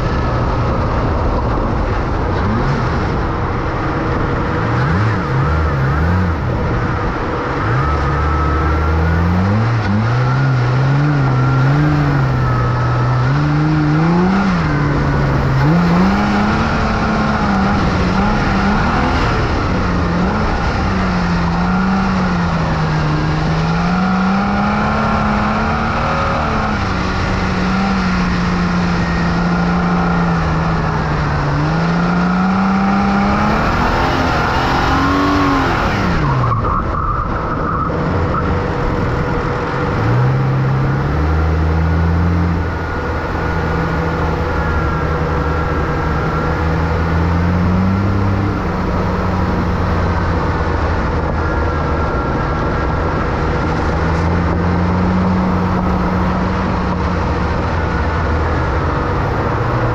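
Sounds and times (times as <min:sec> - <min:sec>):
car engine revving: 0:00.0 - 0:59.9
tyre and road noise: 0:00.0 - 0:59.9.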